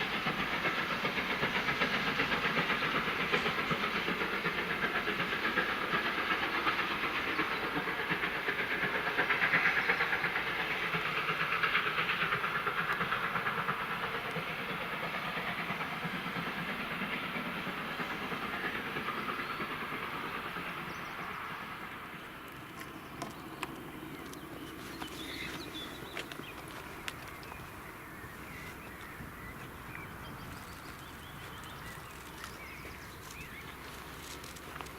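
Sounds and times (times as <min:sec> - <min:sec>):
steam hissing: 0:00.0 - 0:34.9
train wheels clattering: 0:00.0 - 0:34.9.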